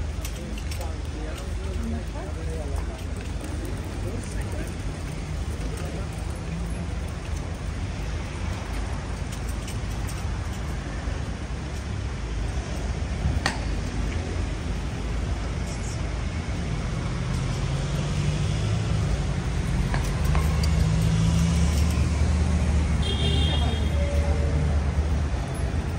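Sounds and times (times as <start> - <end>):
heavy vehicle engine hum: 0.0 - 25.9
road traffic: 0.0 - 25.9.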